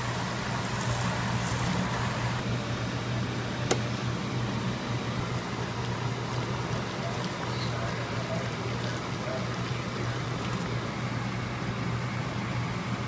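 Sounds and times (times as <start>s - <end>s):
fan-like hum: 0.0s - 13.0s.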